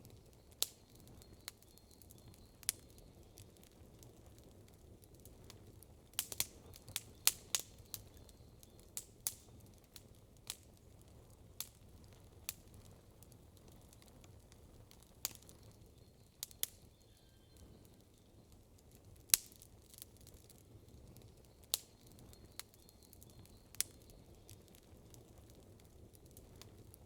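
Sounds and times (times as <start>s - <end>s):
campfire wood crackling: 0.0s - 27.0s.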